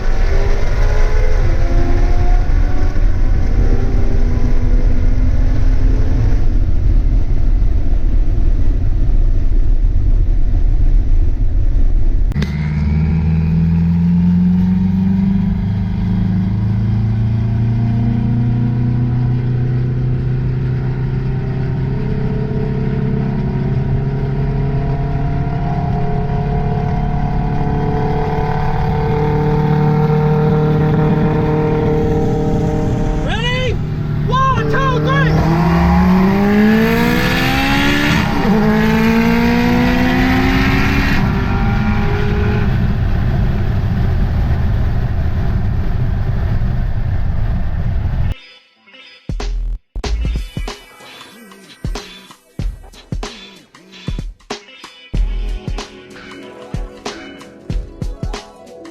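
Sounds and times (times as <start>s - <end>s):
car engine under load: 0.0s - 48.4s.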